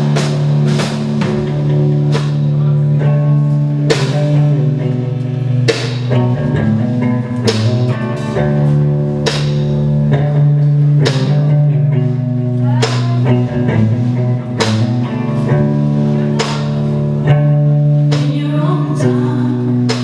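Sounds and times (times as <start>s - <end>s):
bass holding low notes: 0.0s - 20.0s
drums: 0.0s - 20.0s
plucked guitar: 0.0s - 20.0s.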